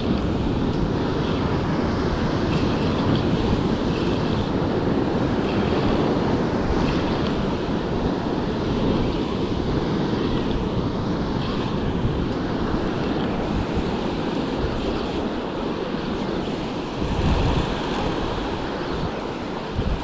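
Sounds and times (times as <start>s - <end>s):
ocean surf breaking over rocks: 0.0s - 20.0s
wind buffeting microphone: 0.0s - 20.0s.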